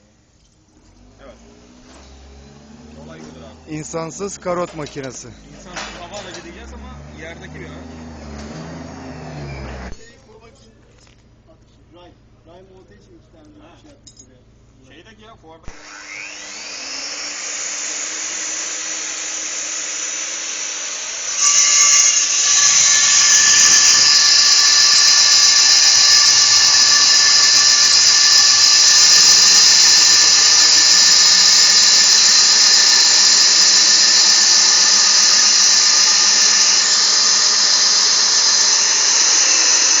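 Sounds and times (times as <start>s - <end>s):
electric core drill whining: 0.8s - 10.1s, 15.6s - 40.0s.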